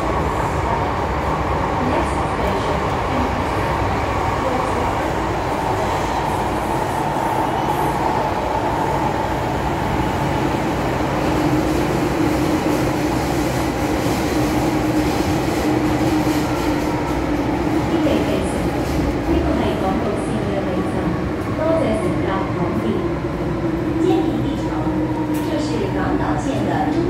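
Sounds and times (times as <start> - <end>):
metro train wheels rumbling: 0.0 - 27.0.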